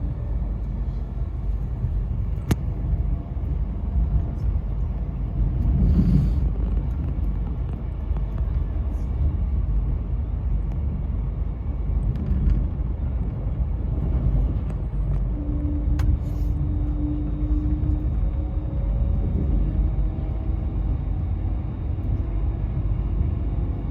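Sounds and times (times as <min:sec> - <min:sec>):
low rumble of travel: 0:00.0 - 0:23.9.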